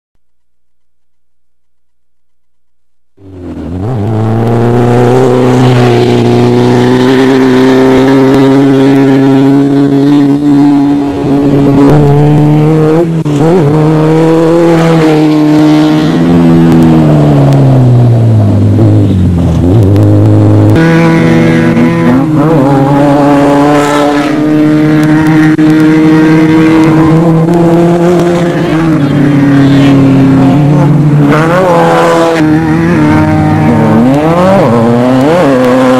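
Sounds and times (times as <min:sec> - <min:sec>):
off-road vehicle engine at high revs: 0:02.3 - 0:35.9.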